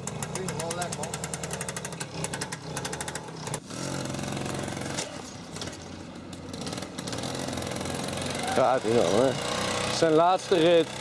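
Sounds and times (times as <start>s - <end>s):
moped engine running: 0.0s - 11.0s.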